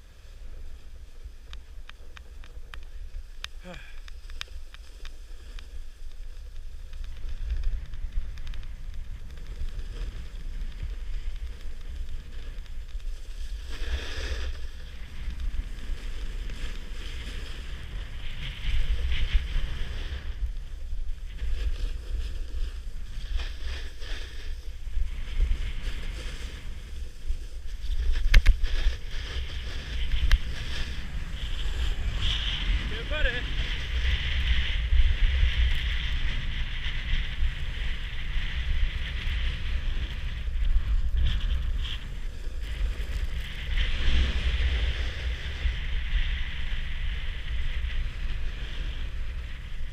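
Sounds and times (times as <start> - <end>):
skis carving packed snow: 0.0 - 49.9
wind buffeting microphone: 0.0 - 49.9.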